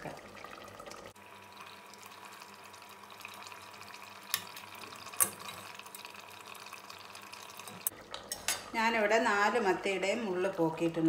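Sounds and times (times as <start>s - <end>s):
faint liquid sound in pot: 0.0s - 11.0s.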